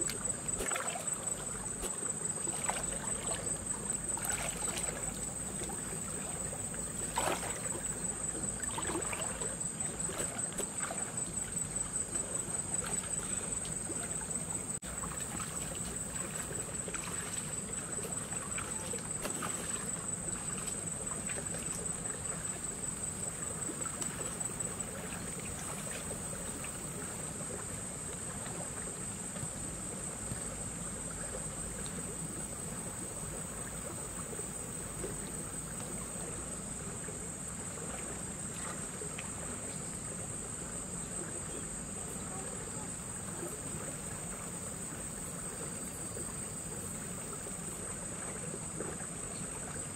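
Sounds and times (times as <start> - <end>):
water sloshing and splashing: 0.0 - 49.9.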